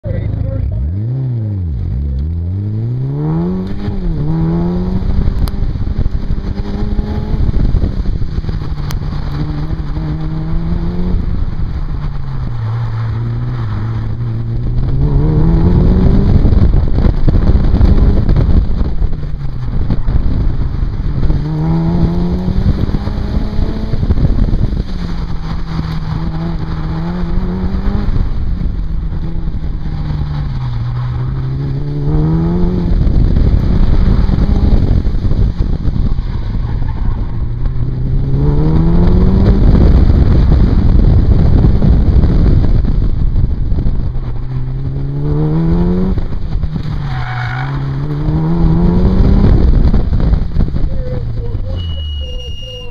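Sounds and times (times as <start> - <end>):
car engine revving: 0.0 - 52.9
wind rumble on microphone: 0.0 - 52.9.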